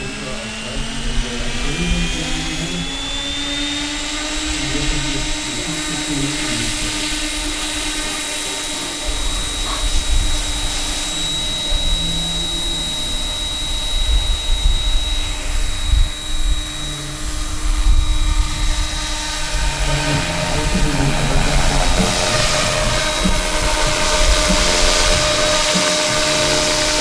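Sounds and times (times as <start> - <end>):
rc helicopter high whine: 0.0 - 27.0.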